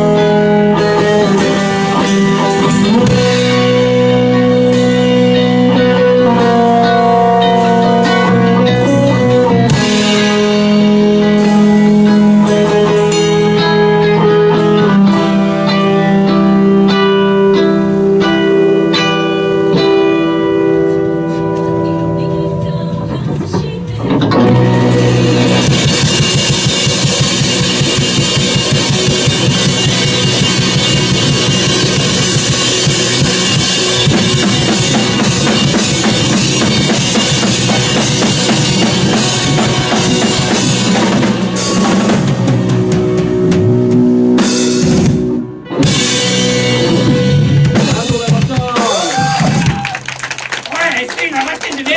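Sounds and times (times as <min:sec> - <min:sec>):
instrumental rock music: 0:00.0 - 0:51.9.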